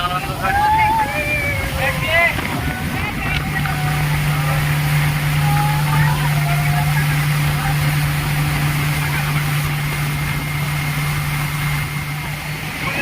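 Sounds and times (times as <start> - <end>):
motorboat engine humming: 0.0 - 13.0
wind and water rushing: 0.0 - 13.0.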